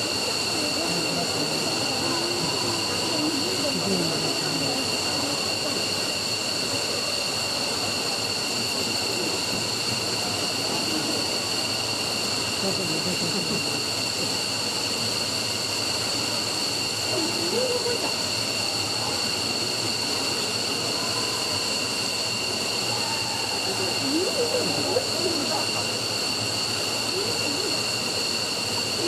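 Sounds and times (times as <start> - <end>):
high turbine whine: 0.0 - 29.0
jet engines running: 0.0 - 29.0.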